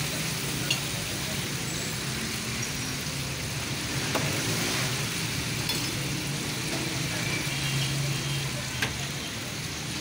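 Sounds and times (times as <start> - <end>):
oil sizzling in a fryer: 0.0 - 10.0.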